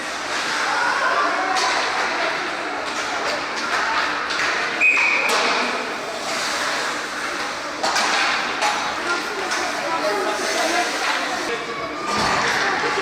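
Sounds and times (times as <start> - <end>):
echoing rink noise: 0.0 - 13.0
voices in the stands: 0.0 - 13.0.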